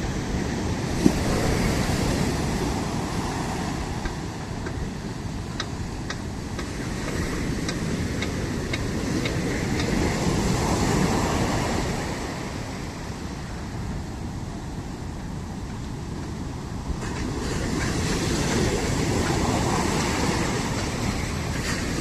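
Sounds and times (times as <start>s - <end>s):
sea surf washing: 0.0s - 22.0s.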